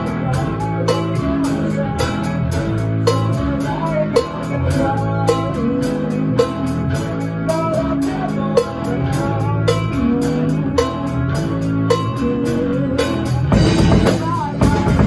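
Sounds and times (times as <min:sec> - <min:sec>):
bass guitar: 0:00.0 - 0:15.0
drum kit beat: 0:00.0 - 0:15.0
electric guitars: 0:00.0 - 0:15.0.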